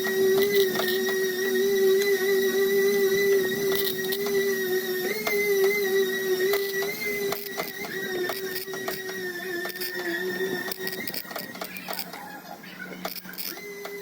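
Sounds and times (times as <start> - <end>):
small power tool motor: 0.0 - 14.0.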